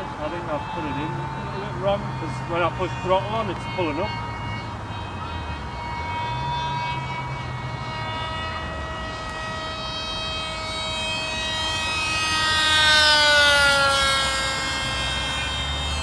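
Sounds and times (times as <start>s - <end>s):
model plane motor whining past: 0.0s - 16.0s.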